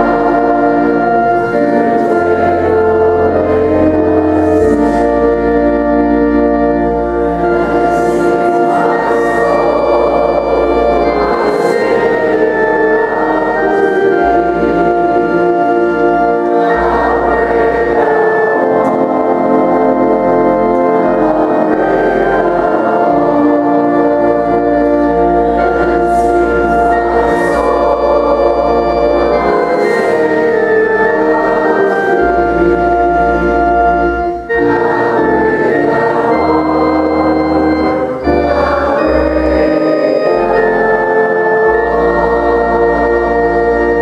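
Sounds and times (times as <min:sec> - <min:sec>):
organ playing slow chords: 0:00.0 - 0:44.0.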